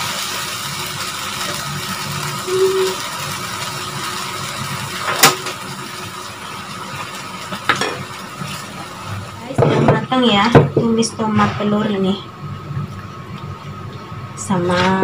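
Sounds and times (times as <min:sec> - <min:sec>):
food sizzling in a wok: 0:00.0 - 0:12.4.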